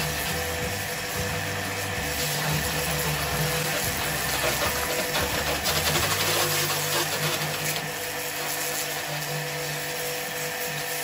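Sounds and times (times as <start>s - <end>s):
pressure washer motor humming: 0.0s - 11.0s
water jet spraying hiss: 0.0s - 11.0s.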